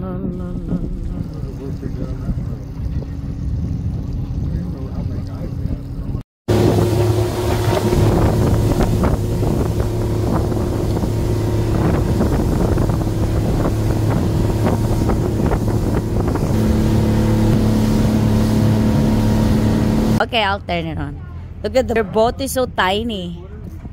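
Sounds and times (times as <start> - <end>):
wind on microphone: 0.0 - 20.2
motorboat engine running: 0.0 - 21.6
hull knocking on water: 0.3 - 20.2.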